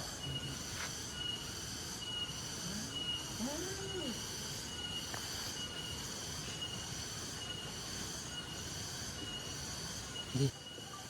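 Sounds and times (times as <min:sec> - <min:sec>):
high-pitched insect buzz: 0:00.0 - 0:11.0
insect chirping: 0:00.0 - 0:11.0.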